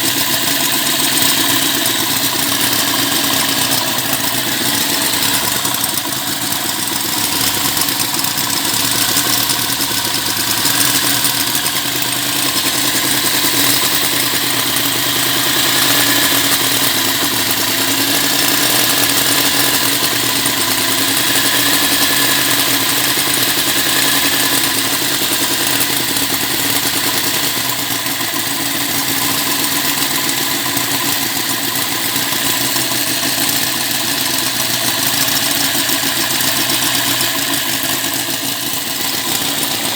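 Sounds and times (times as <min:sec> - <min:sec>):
model engine running: 0:00.0 - 0:39.9.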